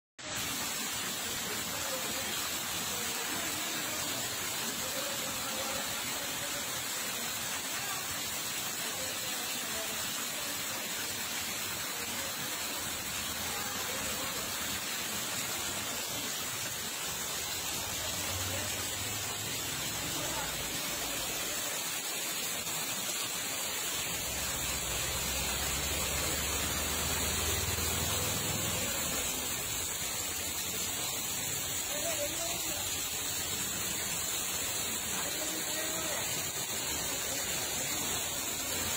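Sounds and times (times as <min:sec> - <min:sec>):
floodwater rushing: 0:00.2 - 0:38.9.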